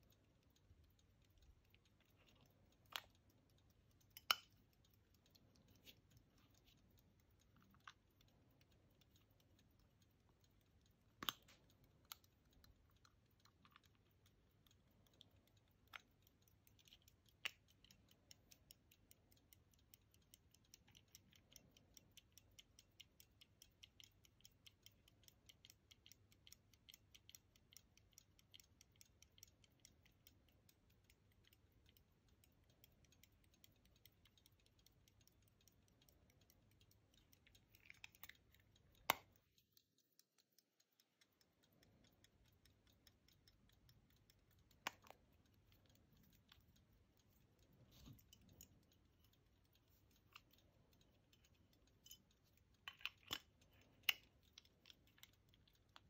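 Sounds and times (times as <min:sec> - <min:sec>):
pocket watch ticking: 0:00.0 - 0:56.0.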